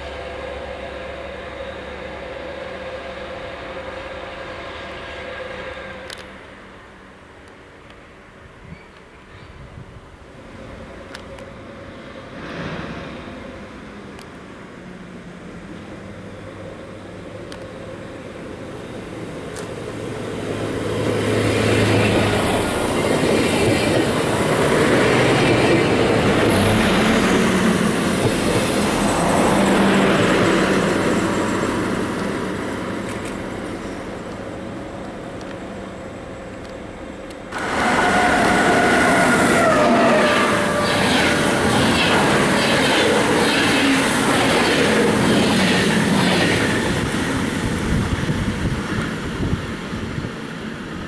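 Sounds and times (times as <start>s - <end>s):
loud train noise with high whine: 0.0s - 51.0s
train wheels rumbling on track: 0.0s - 51.0s.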